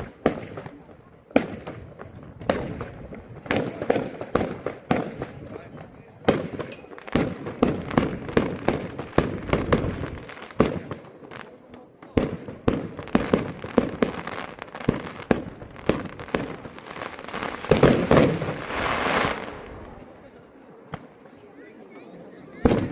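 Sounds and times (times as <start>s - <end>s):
fireworks bangs and cracks: 0.0s - 20.2s, 22.4s - 22.9s.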